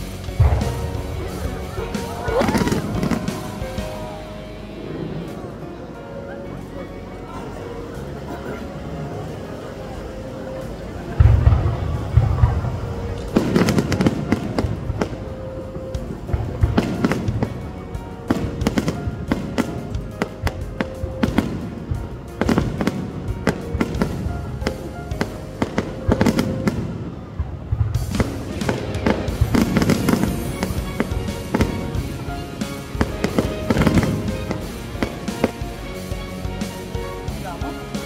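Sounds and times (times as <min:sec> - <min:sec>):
deep fireworks booms: 0:00.0 - 0:05.6, 0:10.8 - 0:38.0
fireworks cracking: 0:00.0 - 0:06.8, 0:07.5 - 0:38.0
background music: 0:00.0 - 0:38.0.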